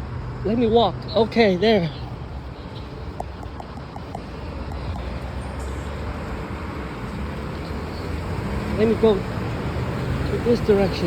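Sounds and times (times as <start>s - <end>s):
low rumble of passing cars: 0.0s - 11.0s.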